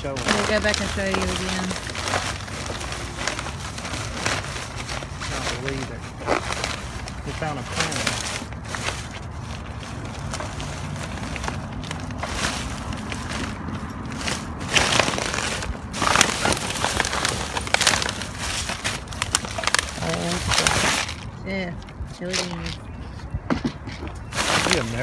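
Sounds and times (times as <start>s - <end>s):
plastic bags rustling and crinkling: 0.0s - 22.8s, 24.2s - 25.0s.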